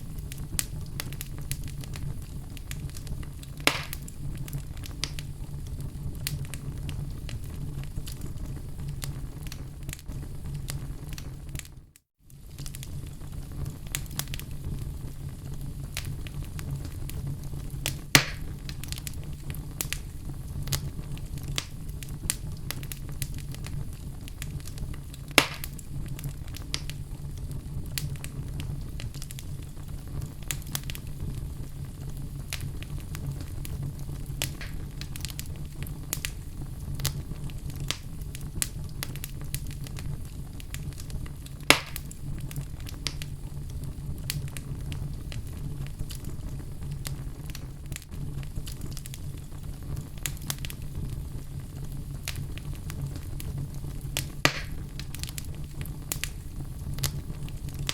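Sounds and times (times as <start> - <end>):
loud fire pops: 0.0 - 57.9
wood fire crackling: 0.0 - 57.9.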